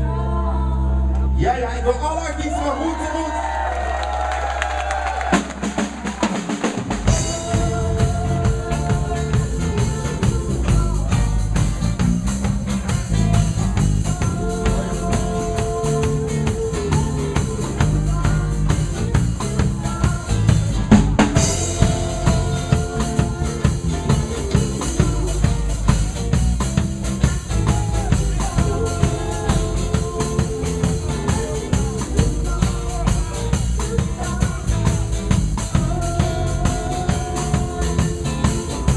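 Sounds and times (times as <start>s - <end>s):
live band playing reggae: 5.2s - 38.9s.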